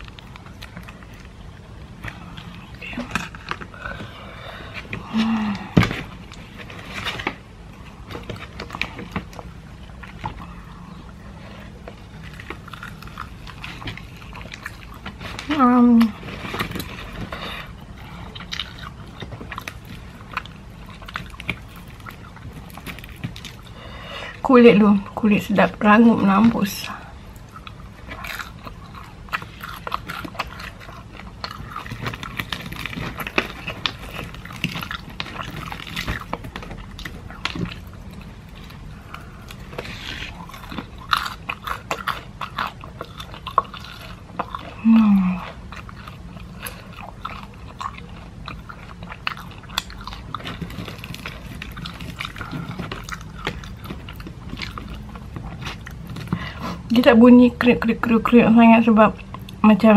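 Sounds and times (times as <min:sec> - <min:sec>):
crunchy chewing and biting: 0:00.0 - 0:24.4, 0:26.4 - 0:56.9.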